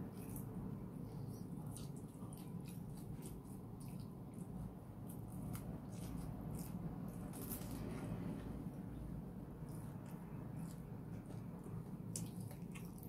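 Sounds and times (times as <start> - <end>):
crunching while chewing: 0.0 - 13.0
steady low hum: 0.0 - 13.0.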